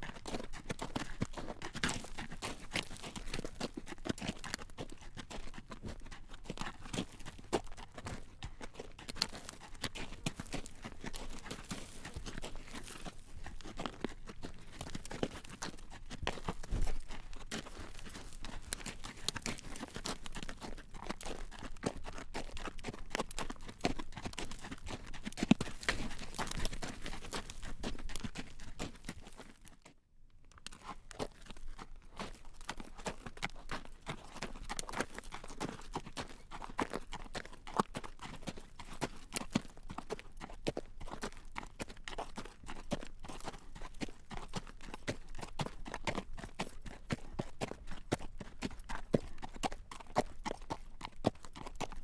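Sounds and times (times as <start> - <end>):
horse hooves clopping on road: 0.0 - 30.0, 30.6 - 52.0.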